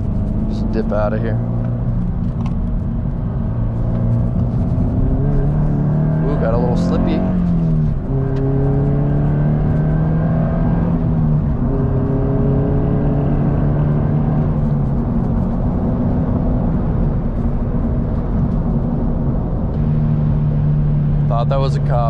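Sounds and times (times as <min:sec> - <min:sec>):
car engine revving through gears: 0:00.0 - 0:17.2, 0:19.7 - 0:22.0
road noise: 0:00.0 - 0:22.0.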